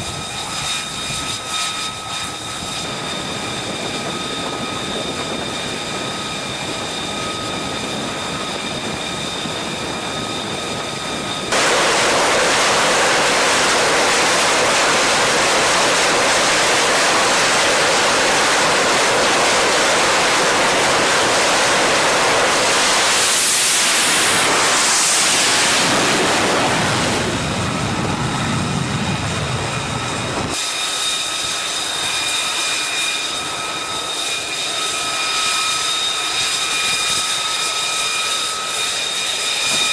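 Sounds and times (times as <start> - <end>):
jet engine roar: 0.0 - 39.9
jet engine turbine whine: 0.0 - 39.9.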